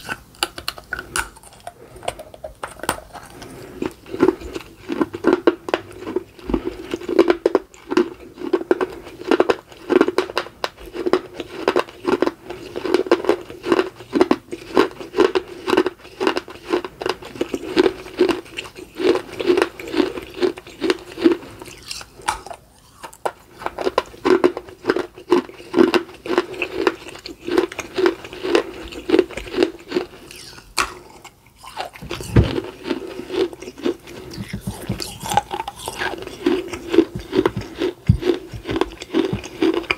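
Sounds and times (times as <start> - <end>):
crunching and chewing clay: 0.0 - 39.9.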